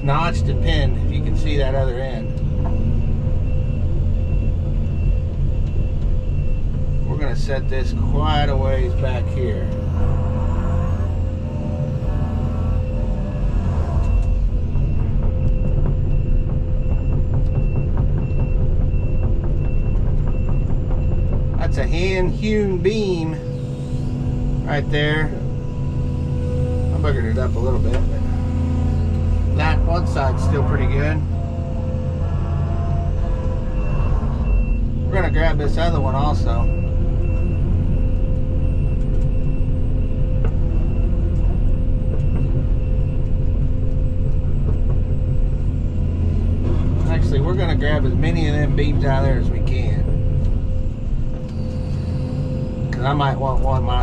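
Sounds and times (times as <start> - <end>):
excavator diesel engine running: 0.0 - 54.0
hydraulic whine: 0.0 - 54.0.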